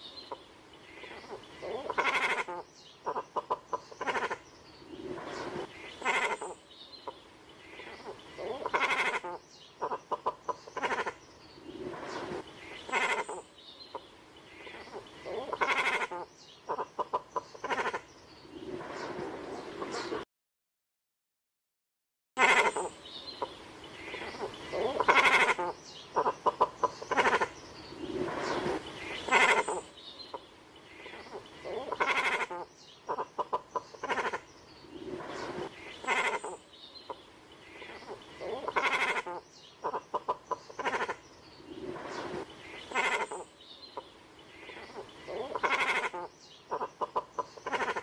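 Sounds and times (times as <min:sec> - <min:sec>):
cormorants calling: 0:01.0 - 0:07.2, 0:07.8 - 0:18.1, 0:22.4 - 0:48.0.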